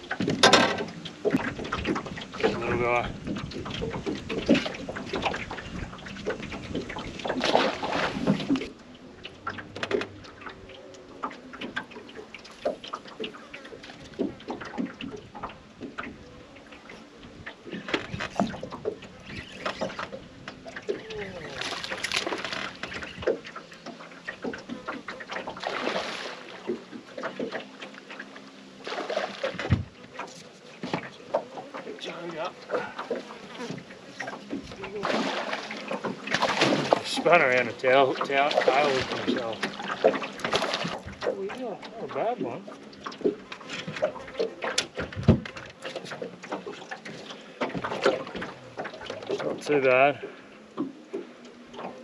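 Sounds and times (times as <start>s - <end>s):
water splashing and sloshing: 0.0s - 52.0s.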